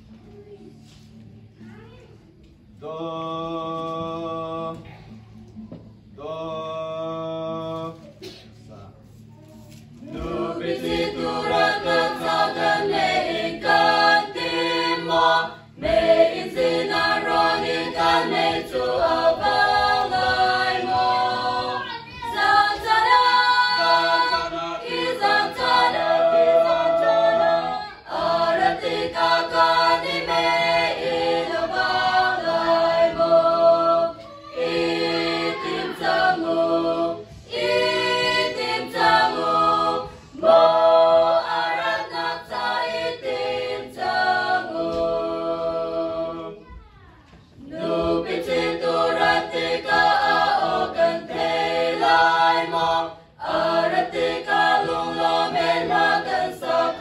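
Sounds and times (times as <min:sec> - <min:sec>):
women's choir singing a hymn: 0:10.0 - 0:46.6, 0:47.5 - 0:57.0.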